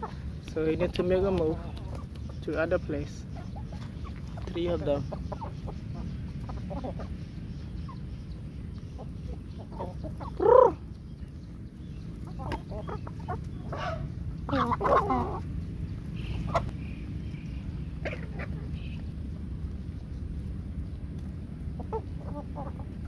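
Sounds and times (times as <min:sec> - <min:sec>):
chickens clucking: 0:00.0 - 0:23.0
steady low rumble: 0:00.0 - 0:23.0.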